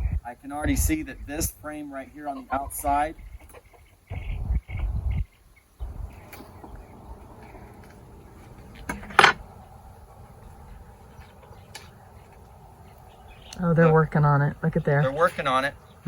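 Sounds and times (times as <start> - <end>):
honeybees humming: 2.0 - 16.0.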